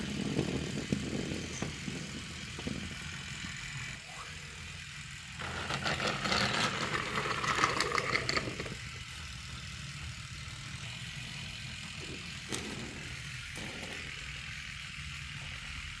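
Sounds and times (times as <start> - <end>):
toy train clicking and rattling: 0.0 - 4.0, 4.6 - 16.0
toy train low hum: 0.0 - 16.0.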